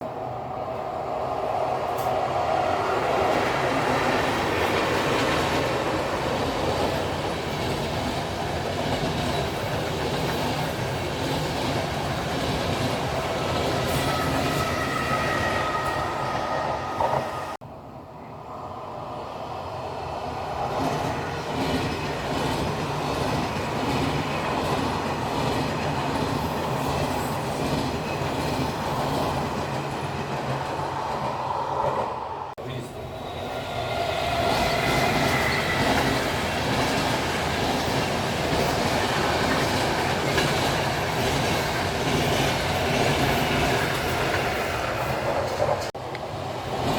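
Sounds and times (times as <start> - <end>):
train wheels clattering on track: 1.8 - 15.1, 20.6 - 32.2, 33.4 - 46.9.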